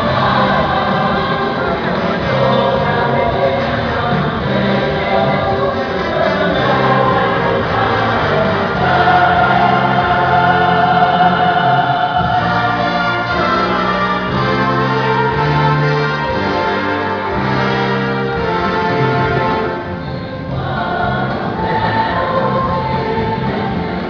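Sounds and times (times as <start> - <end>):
choir singing gospel song: 0.0 - 24.0.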